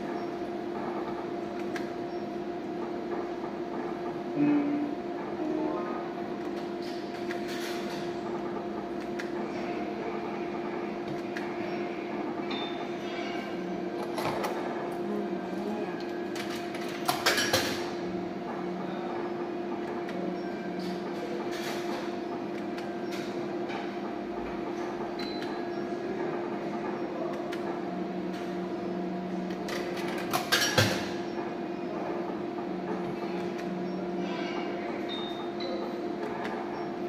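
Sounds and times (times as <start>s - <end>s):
noisy background: 0.0s - 37.0s.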